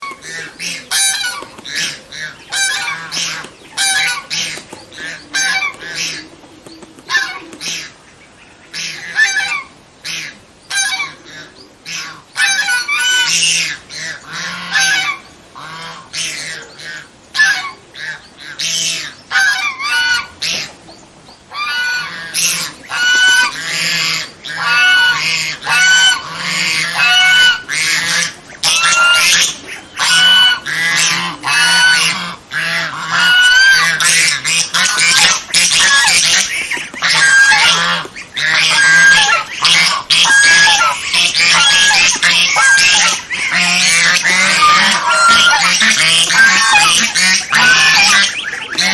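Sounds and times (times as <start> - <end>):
goose honking: 0.0 - 6.3, 8.7 - 20.7, 21.5 - 48.9.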